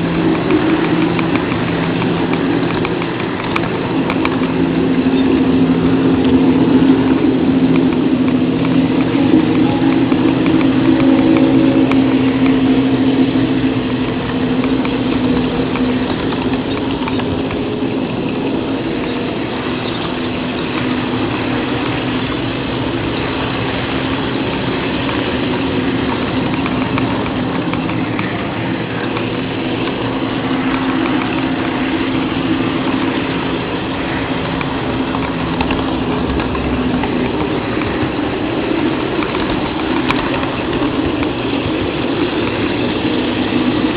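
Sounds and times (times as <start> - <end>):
model train running: 0.0 - 43.9.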